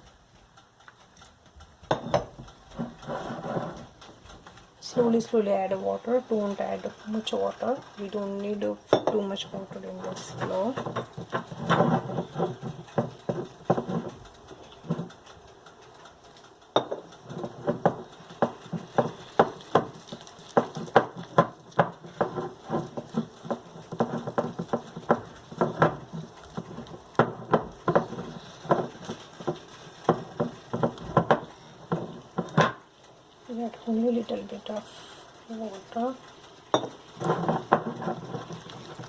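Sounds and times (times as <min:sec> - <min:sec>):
batter being mixed in a bowl: 0:01.8 - 0:39.0.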